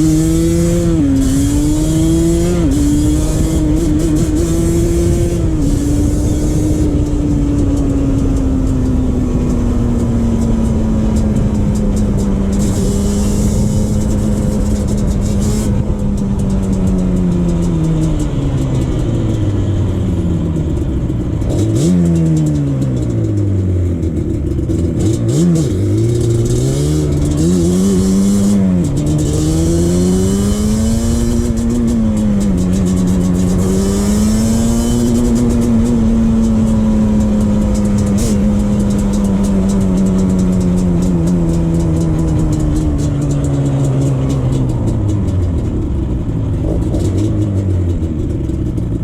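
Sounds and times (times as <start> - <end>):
two-stroke engine revving: 0.0 - 49.0.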